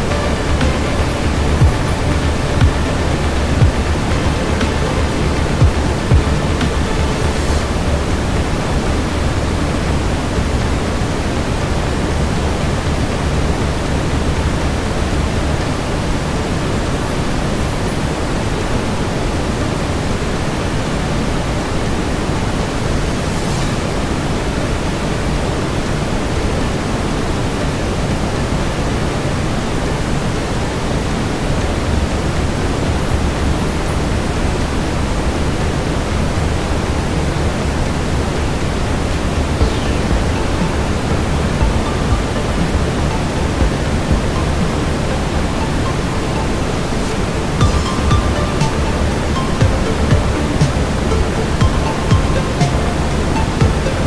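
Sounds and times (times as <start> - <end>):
deep even brown noise: 0.0 - 54.0.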